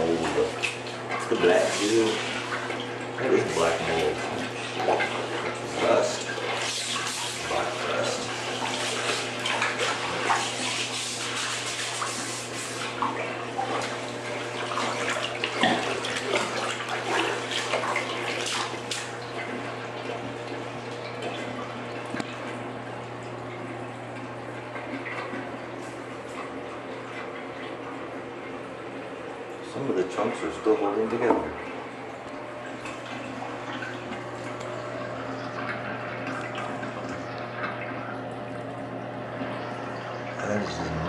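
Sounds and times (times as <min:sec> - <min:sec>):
water sloshing in bathtub: 0:00.0 - 0:41.0.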